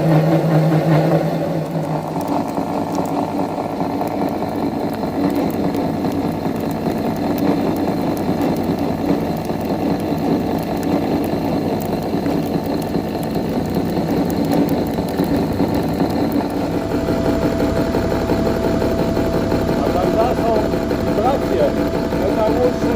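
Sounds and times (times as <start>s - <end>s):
milling machine humming: 0.0s - 22.9s.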